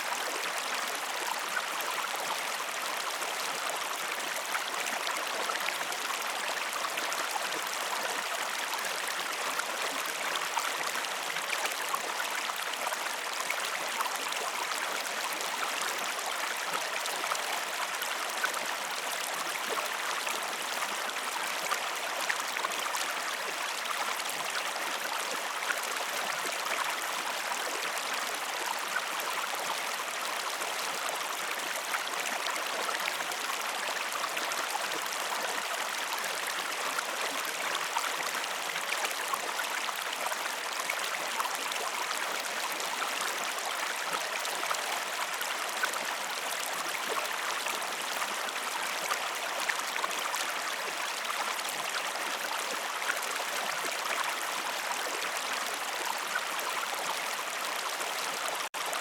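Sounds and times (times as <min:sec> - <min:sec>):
stream running water: 0:00.0 - 0:59.0.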